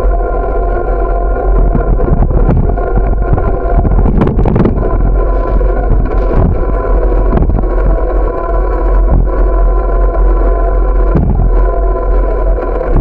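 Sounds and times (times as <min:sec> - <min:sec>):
road vibration hum: 0:00.0 - 0:13.0
wind on microphone: 0:00.0 - 0:13.0.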